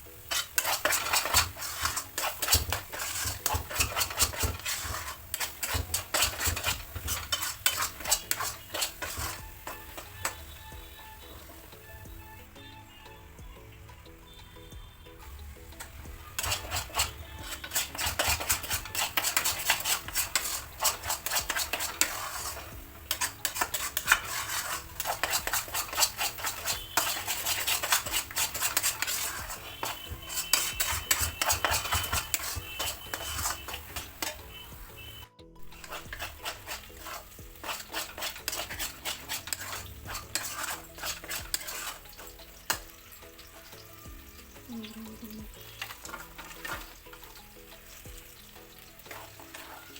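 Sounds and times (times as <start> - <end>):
spatula scraping a pan: 0.0 - 12.4, 15.2 - 49.9
mixture sizzling in pan: 0.0 - 49.9.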